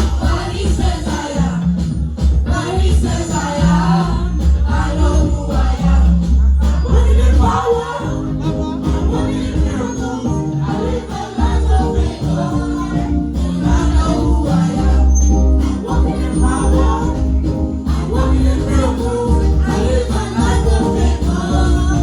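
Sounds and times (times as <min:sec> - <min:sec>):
gospel choir singing: 0:00.0 - 0:22.0
heavy bass line: 0:00.0 - 0:22.0
shaken percussion: 0:00.0 - 0:22.0.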